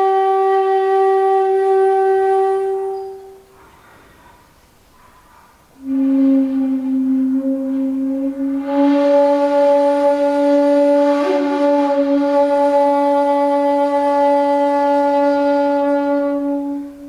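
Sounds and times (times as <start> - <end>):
bamboo flute long low note: 0.0 - 4.2, 5.8 - 17.0.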